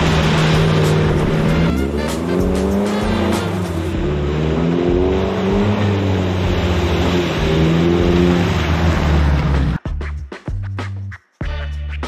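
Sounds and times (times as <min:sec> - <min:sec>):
off-road vehicle engine revving: 0:00.0 - 0:09.8.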